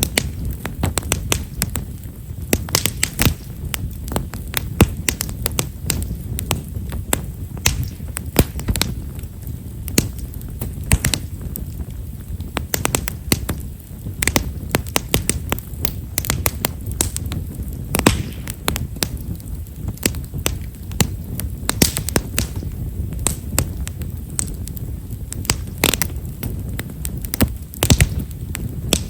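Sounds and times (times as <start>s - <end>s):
firewood crackling and popping: 0.0s - 29.0s
low rumble of fire: 0.0s - 29.0s.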